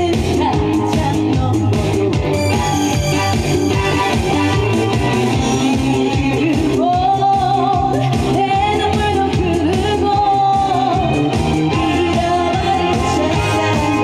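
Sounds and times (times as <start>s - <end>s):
pop backing music with beat: 0.0s - 14.0s
woman singing with vibrato: 0.0s - 14.0s.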